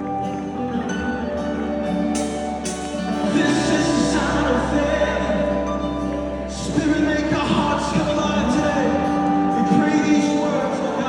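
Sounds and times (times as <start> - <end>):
worship music with singing: 0.0 - 11.0.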